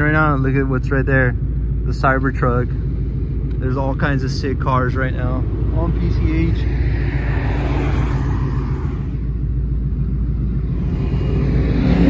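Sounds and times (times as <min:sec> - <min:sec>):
car rolling in traffic: 0:00.0 - 0:12.0
road and tyre noise: 0:00.0 - 0:12.0.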